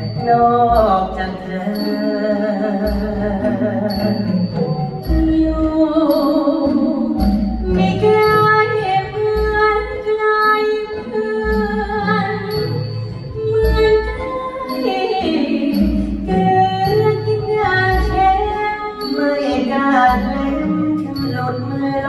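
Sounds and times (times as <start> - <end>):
orchestral accompaniment: 0.0 - 22.0
woman singing: 0.2 - 4.4, 5.0 - 22.0.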